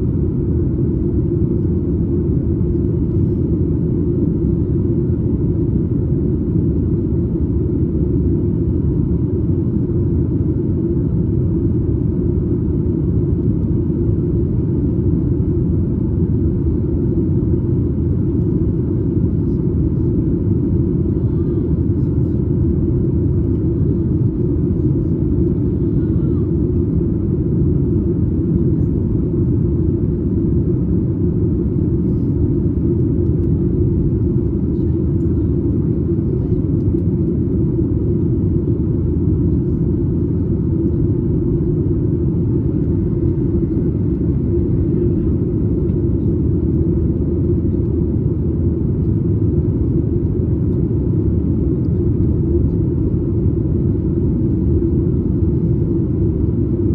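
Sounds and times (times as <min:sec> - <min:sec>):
airplane cabin noise: 0:00.0 - 0:56.9.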